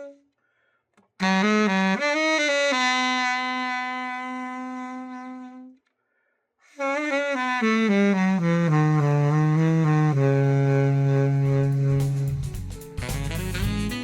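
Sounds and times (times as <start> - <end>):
alto saxophone playing: 0.0 - 0.3, 1.1 - 5.9, 6.6 - 14.0.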